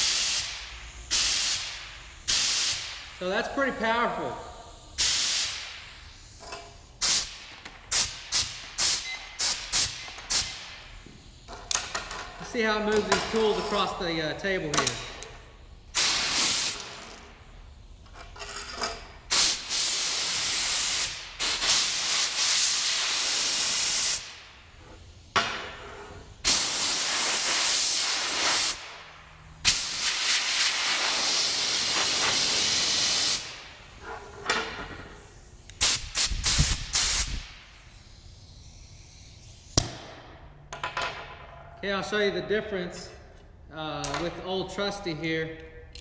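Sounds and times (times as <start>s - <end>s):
air blow gun hissing: 0.0s - 18.1s, 19.1s - 34.0s, 34.9s - 40.1s.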